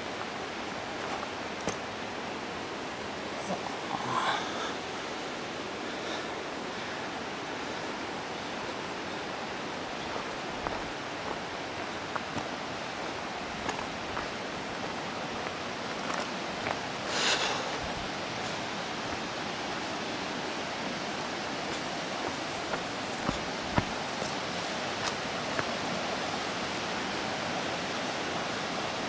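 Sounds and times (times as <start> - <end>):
rustle: 0.0 - 29.0
water rushing: 0.0 - 29.0.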